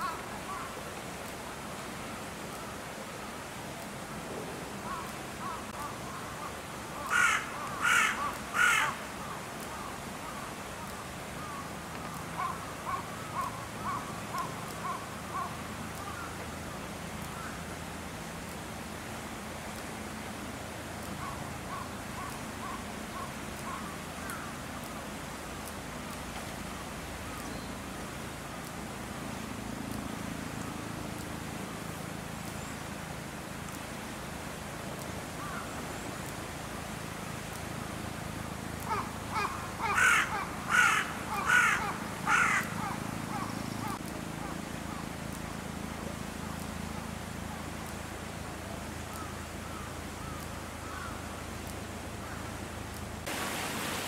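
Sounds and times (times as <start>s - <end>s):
low steady rumble: 10.0s - 53.4s.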